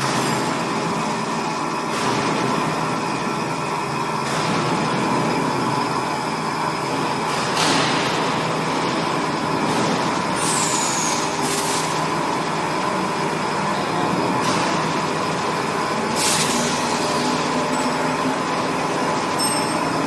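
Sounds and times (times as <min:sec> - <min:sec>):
machining center hum: 0:00.0 - 0:20.0.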